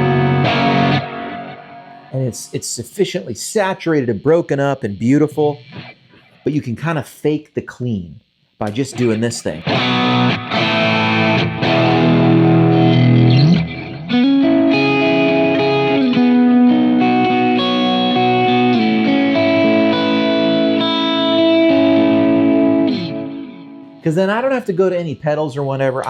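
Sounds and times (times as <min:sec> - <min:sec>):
distorted electric guitar with delay: 0:00.0 - 0:06.8, 0:08.6 - 0:25.2.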